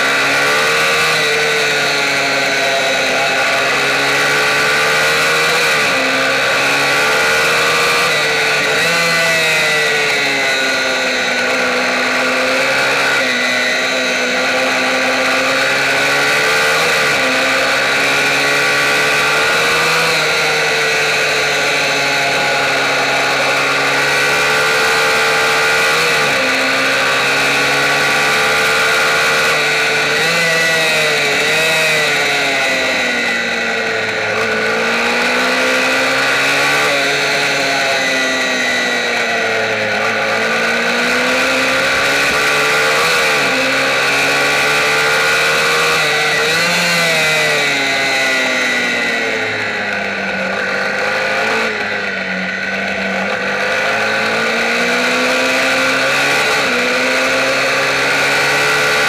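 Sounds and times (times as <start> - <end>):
minibike engine revving: 0.0 - 59.0.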